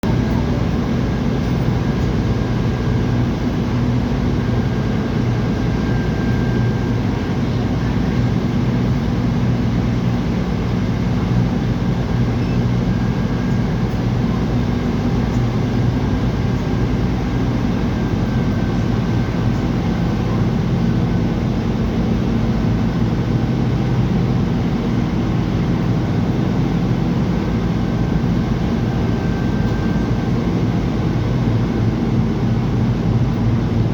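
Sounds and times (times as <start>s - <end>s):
ferry engine drone: 0.0s - 33.9s.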